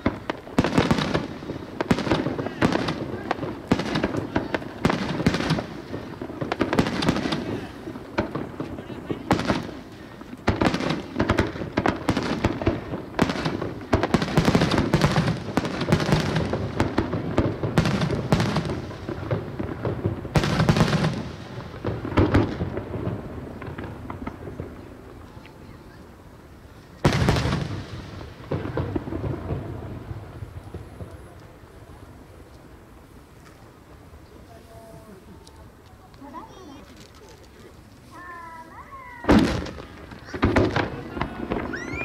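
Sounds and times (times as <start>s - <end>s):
fireworks crackle: 0.0s - 42.0s.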